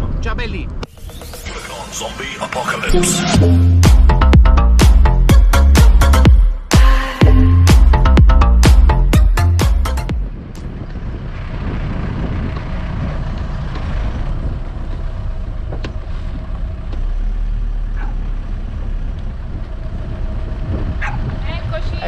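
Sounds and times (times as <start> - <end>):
motorhome engine and road noise: 0.0 - 6.6, 7.2 - 22.0.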